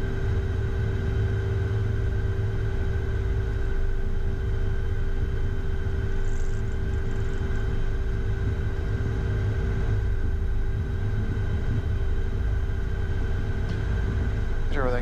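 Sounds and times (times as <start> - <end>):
jet engines idling: 0.0 - 15.0.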